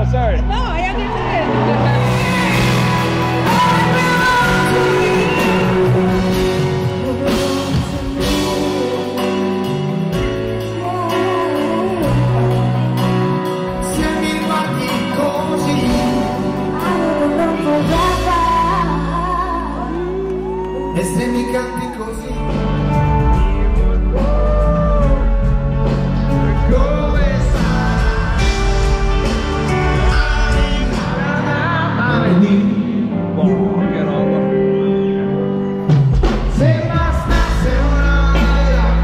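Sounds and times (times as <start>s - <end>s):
full band playing: 0.0s - 39.0s
man and woman singing duet: 1.7s - 22.4s, 26.4s - 35.0s, 36.5s - 39.0s.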